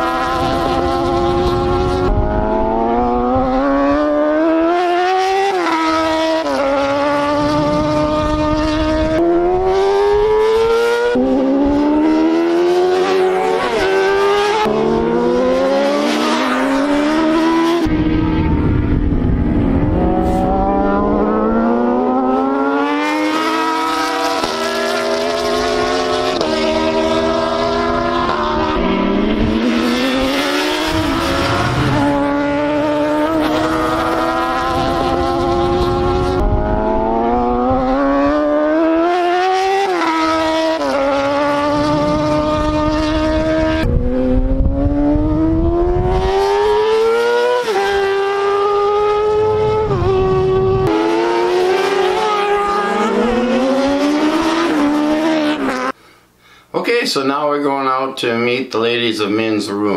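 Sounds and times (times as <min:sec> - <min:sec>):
motorcycle engines revving high: 0:00.0 - 0:56.0.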